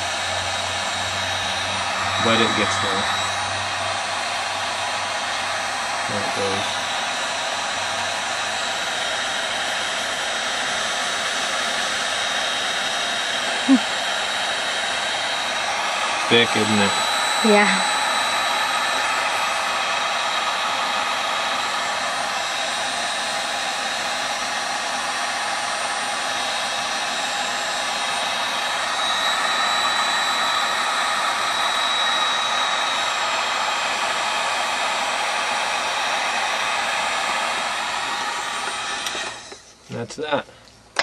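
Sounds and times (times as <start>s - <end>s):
heat gun blowing air: 0.0s - 39.8s.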